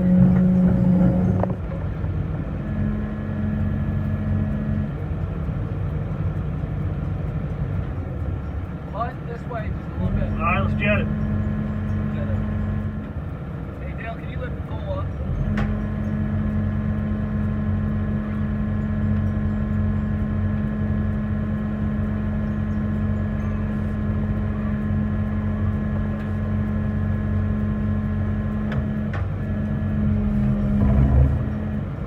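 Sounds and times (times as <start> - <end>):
water pump engine running: 0.0 - 32.0.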